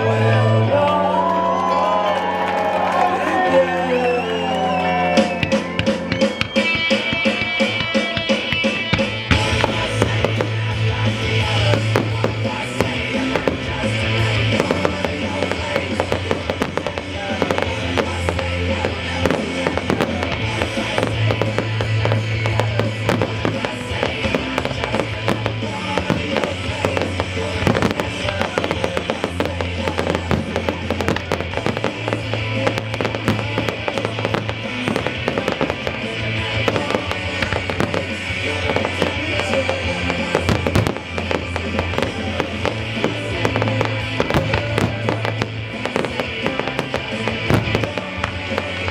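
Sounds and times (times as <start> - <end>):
rock music with guitar and drums: 3.4 - 48.9
fireworks popping and banging: 5.2 - 48.9.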